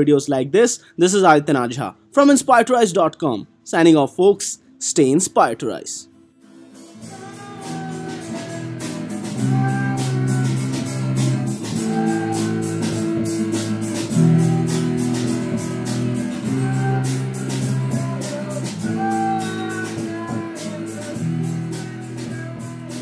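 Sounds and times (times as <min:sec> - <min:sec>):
background music with steady beat: 0:00.0 - 0:23.0.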